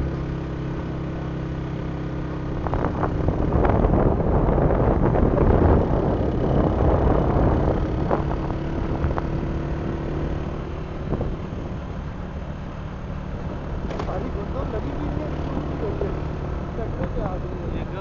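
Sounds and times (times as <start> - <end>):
road noise rushing: 0.0 - 18.0
vehicle engine hum: 0.0 - 18.0.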